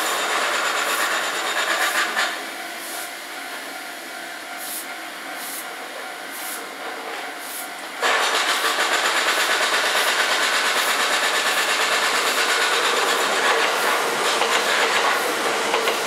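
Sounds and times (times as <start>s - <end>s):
electric train running: 0.0s - 16.0s.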